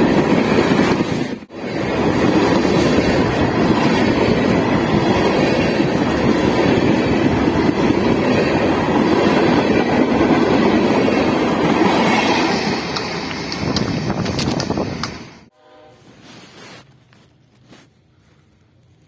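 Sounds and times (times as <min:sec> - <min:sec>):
freight train wheels on rails: 0:00.0 - 0:15.5.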